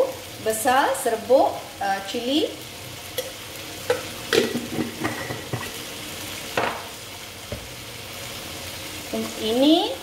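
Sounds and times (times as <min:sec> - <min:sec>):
spice paste sizzling in oil: 0:00.0 - 0:10.0.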